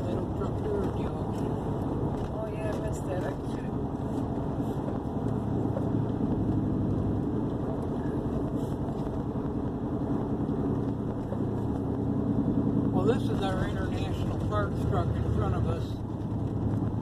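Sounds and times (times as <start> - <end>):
road noise: 0.0 - 17.0
vehicle engine and exhaust droning: 0.0 - 17.0.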